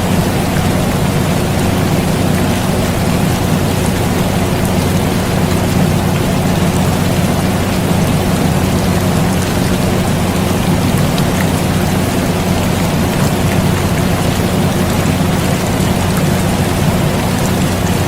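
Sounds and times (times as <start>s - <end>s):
air conditioner hum: 0.0s - 18.0s
rain pattering: 0.0s - 18.0s.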